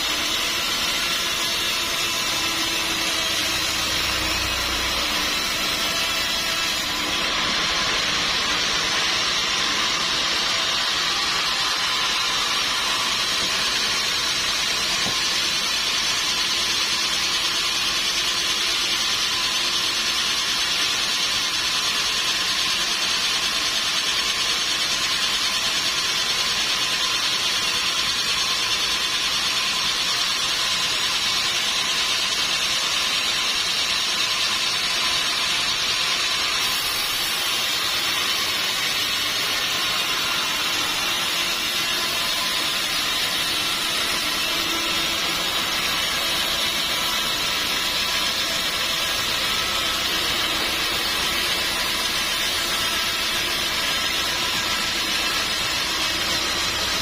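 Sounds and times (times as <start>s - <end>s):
sawmill saw cutting log: 0.0s - 57.0s.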